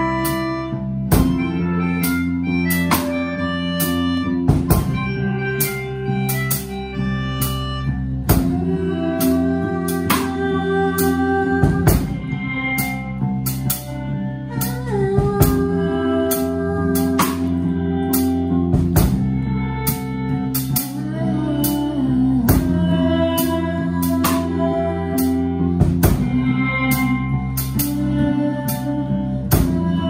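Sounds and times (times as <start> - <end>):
drums: 0.0 - 30.0
electric guitar chords: 0.0 - 30.0.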